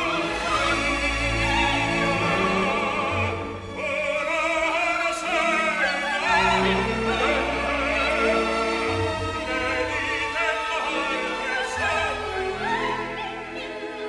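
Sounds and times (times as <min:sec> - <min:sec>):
operatic singing voice: 0:00.0 - 0:14.0
orchestra playing: 0:00.0 - 0:14.0.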